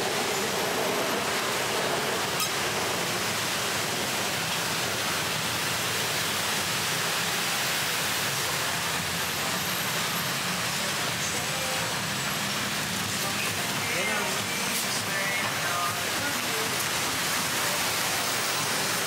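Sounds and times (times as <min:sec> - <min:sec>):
heavy road traffic: 0:00.0 - 0:19.0.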